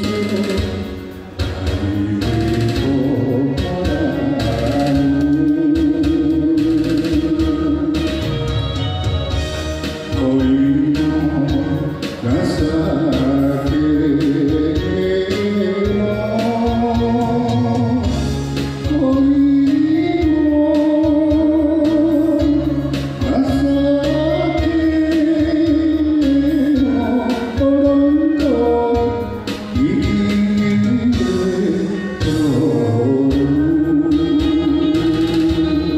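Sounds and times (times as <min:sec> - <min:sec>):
band with steady bass line: 0:00.0 - 0:35.9
person singing with vibrato: 0:00.0 - 0:35.9.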